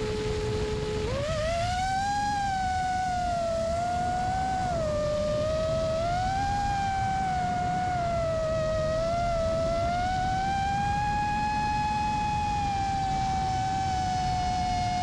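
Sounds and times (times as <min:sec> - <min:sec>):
low rumble of wind: 0:00.0 - 0:15.0
quadcopter motors whining: 0:00.0 - 0:15.0.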